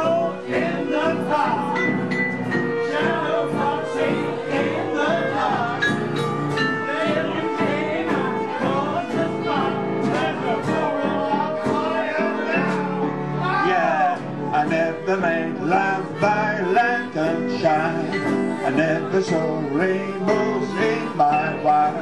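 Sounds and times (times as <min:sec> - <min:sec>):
sliding lead melody: 0:00.0 - 0:22.0
small band playing: 0:00.0 - 0:22.0.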